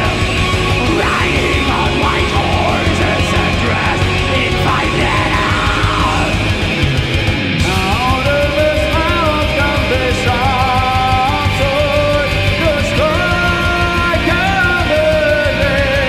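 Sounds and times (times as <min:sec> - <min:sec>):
man singing long notes: 0:00.0 - 0:06.6, 0:07.6 - 0:16.0
metal band playing live: 0:00.0 - 0:16.0.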